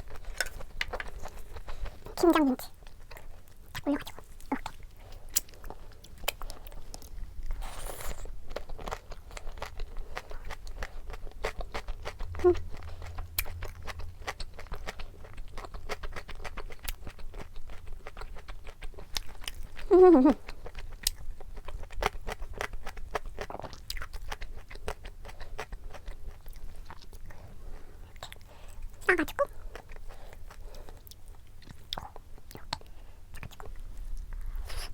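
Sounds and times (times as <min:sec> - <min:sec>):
close chewing crunches: 0:00.0 - 0:34.9.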